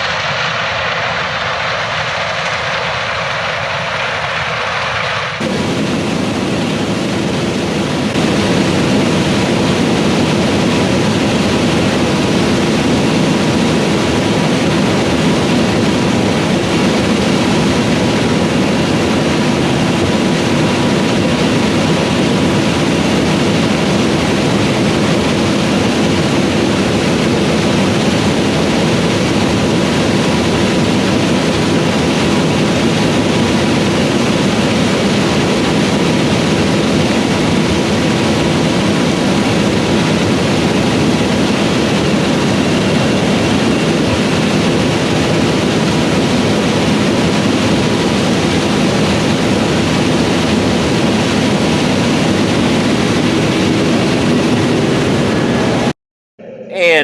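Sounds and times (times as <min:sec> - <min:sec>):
combine harvester drone: 0:00.0 - 0:57.0.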